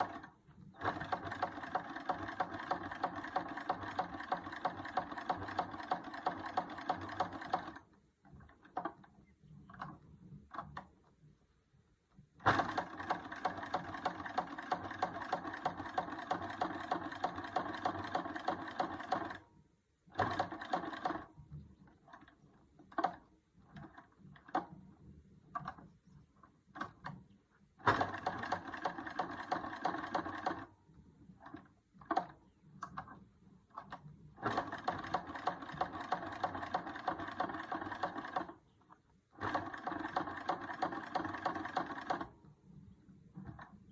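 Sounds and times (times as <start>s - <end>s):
sewing machine stitching: 0.0s - 11.0s, 12.4s - 25.9s, 26.7s - 42.5s, 43.3s - 43.9s
sewing machine clicks: 0.0s - 11.1s, 12.4s - 42.6s, 43.3s - 43.9s.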